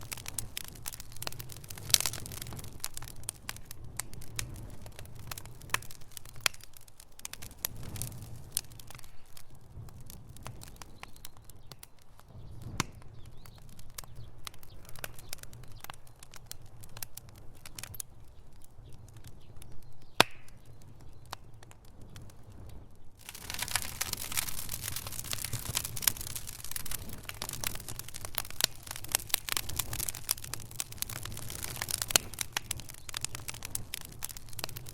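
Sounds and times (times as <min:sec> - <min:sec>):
fire crackling and popping: 0:00.0 - 0:34.9
low fire rumble: 0:00.0 - 0:34.9.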